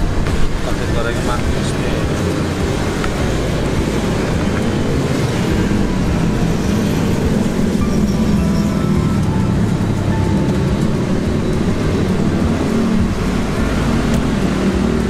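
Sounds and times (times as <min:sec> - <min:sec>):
music playing: 0:00.0 - 0:15.0
road traffic rumble: 0:00.0 - 0:15.0.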